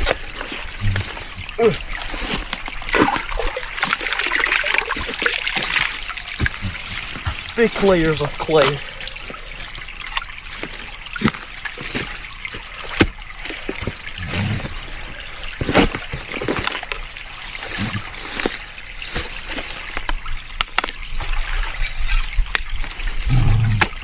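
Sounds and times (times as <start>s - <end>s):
stream water trickling: 0.0s - 24.0s.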